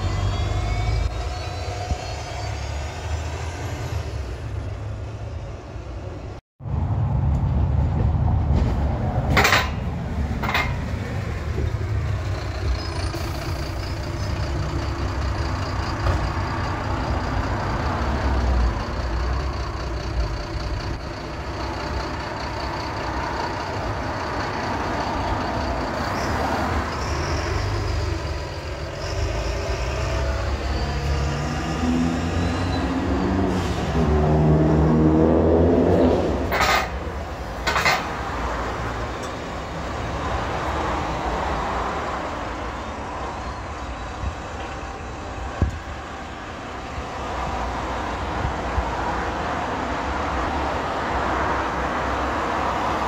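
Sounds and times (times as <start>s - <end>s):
bus engine running: 0.0s - 53.0s
passing street traffic: 0.0s - 53.0s.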